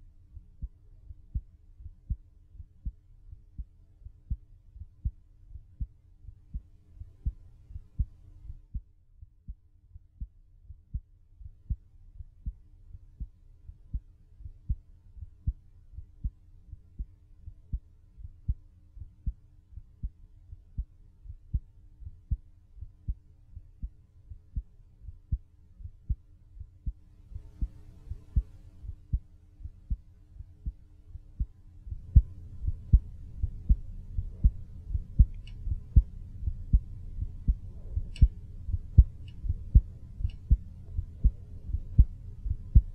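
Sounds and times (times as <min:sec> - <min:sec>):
faint hum: 0:00.0 - 0:42.9
heartbeat thumps: 0:00.4 - 0:42.9.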